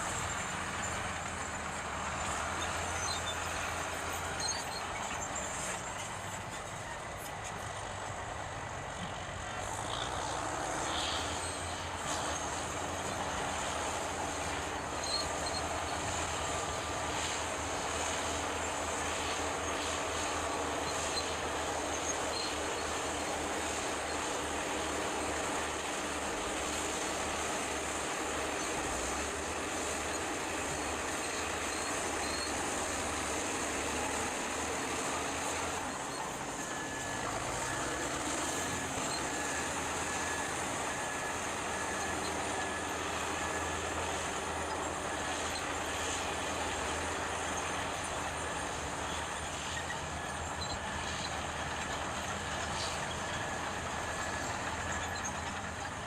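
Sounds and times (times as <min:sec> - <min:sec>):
heavy vehicle engine running: 0:00.0 - 0:56.0.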